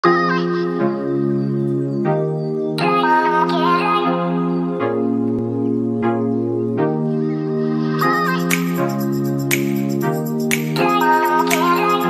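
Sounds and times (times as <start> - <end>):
music of held chords: 0.0 - 12.0.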